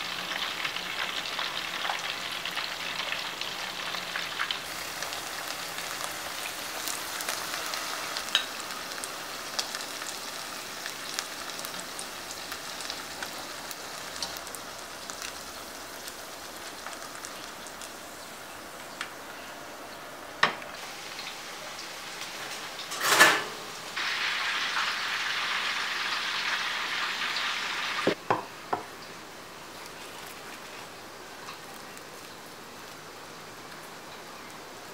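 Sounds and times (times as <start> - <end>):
oil sizzling: 0.0 - 19.2, 20.5 - 34.9.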